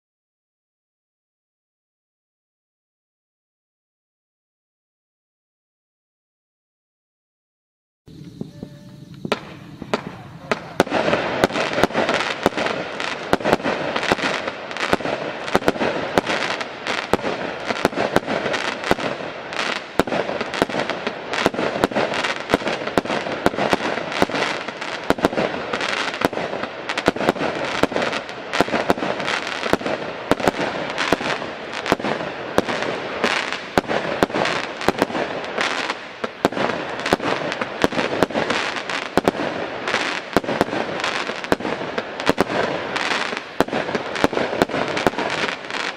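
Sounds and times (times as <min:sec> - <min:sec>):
firework bangs: 0:08.1 - 0:45.9
firework hiss: 0:08.1 - 0:45.9.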